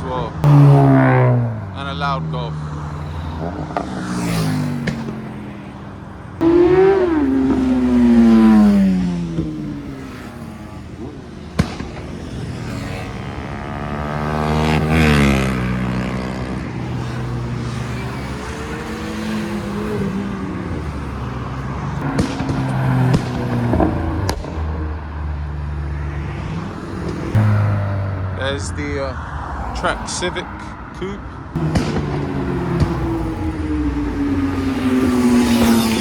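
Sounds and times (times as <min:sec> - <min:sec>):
cars revving past: 0:00.0 - 0:36.0.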